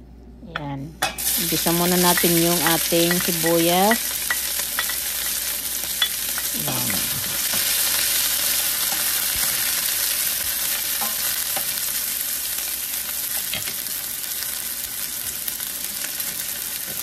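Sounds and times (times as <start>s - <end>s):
onions sizzling in oil: 1.0s - 17.0s.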